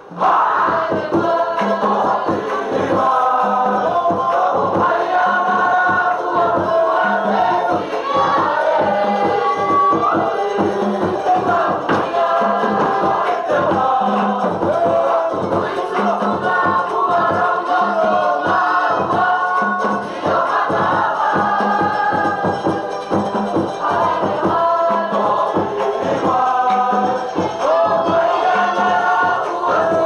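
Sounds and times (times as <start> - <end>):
choir singing: 0.0 - 30.0
fast steady drum beat: 0.0 - 30.0.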